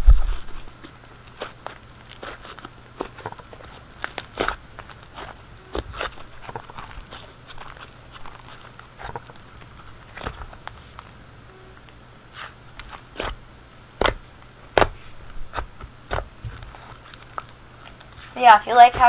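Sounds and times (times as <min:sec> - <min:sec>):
hands squishing slime: 0:00.0 - 0:11.1, 0:12.3 - 0:13.4, 0:14.0 - 0:19.0.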